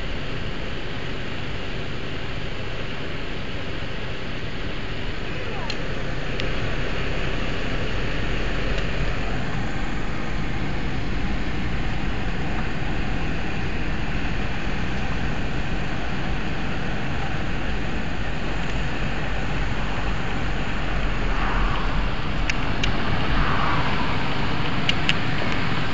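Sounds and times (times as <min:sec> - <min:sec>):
car engine and road noise: 0:00.0 - 0:25.9.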